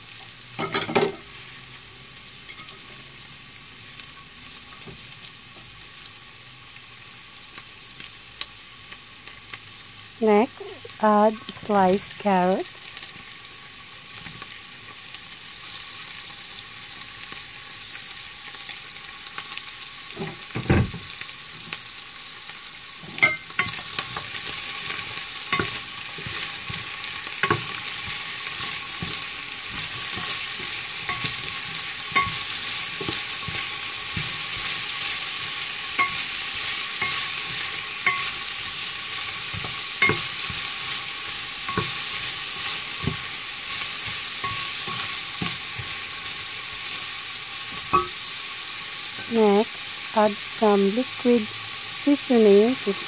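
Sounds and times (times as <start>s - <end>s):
food sizzling in oil: 0.0s - 53.0s.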